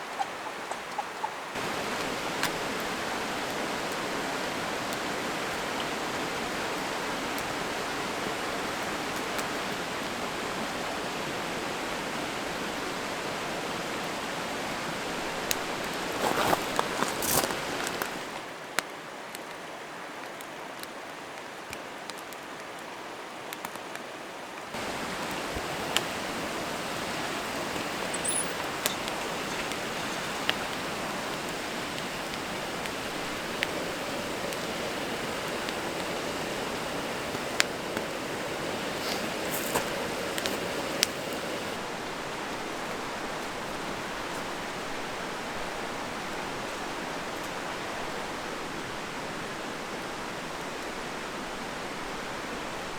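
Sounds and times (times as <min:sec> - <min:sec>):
stream water rushing: 0:00.0 - 0:18.6, 0:24.7 - 0:52.9.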